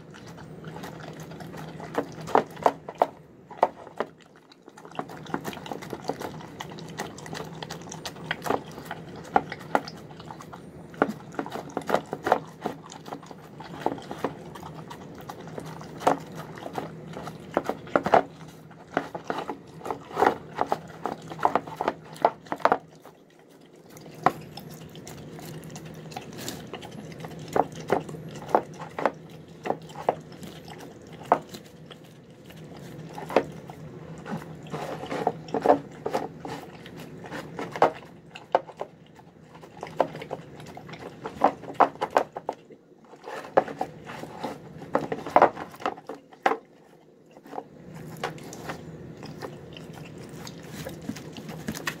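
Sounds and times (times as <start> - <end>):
dog eating wet food: 0.0 - 52.0.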